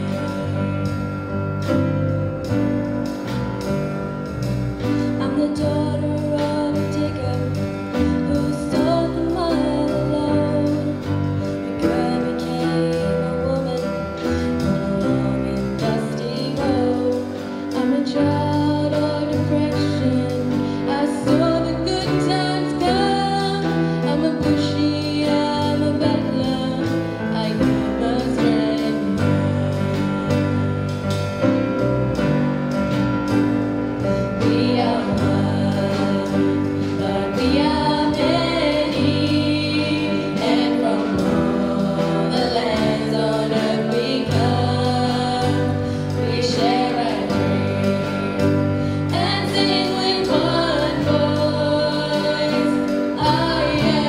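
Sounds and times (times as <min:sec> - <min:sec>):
instrumental accompaniment: 0:00.0 - 0:54.0
girl singing into microphone: 0:05.2 - 0:30.7, 0:34.4 - 0:54.0.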